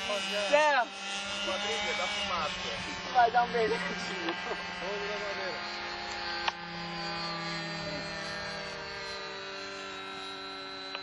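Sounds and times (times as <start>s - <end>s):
model airplane motor droning: 0.0s - 11.0s.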